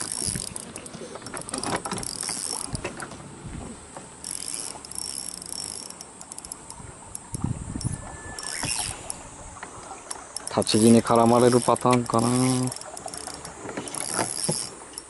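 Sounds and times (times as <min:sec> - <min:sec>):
sharp ticks: 0:00.0 - 0:03.0, 0:03.9 - 0:15.0
fishing reel gears whirring: 0:00.0 - 0:15.0.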